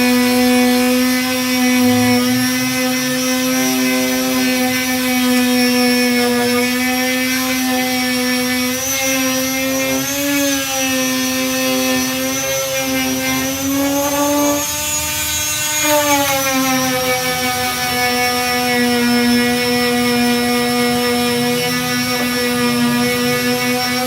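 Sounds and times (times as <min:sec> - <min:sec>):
electric disc sander whining: 0:00.0 - 0:24.0.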